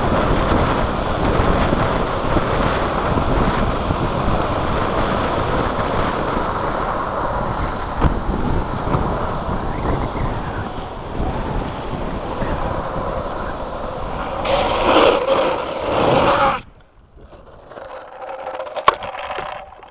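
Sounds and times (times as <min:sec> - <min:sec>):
longboard wheels rolling on asphalt: 0:00.0 - 0:19.9
wind buffeting microphone: 0:00.0 - 0:19.9.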